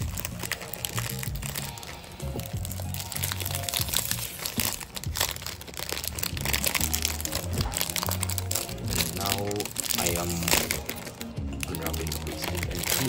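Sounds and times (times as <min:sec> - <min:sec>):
background music with bass line: 0:00.0 - 0:13.0
plastic wrap crinkling: 0:00.0 - 0:13.0.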